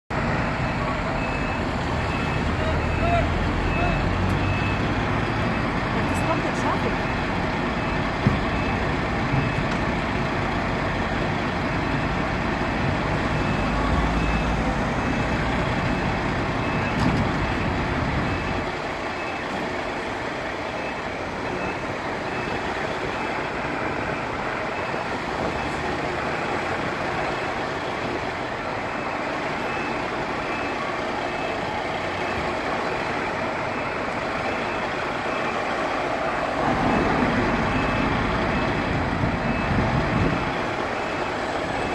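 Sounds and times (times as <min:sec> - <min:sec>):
fire engine diesels running: 0:00.1 - 0:41.9
traffic passing: 0:00.1 - 0:41.9.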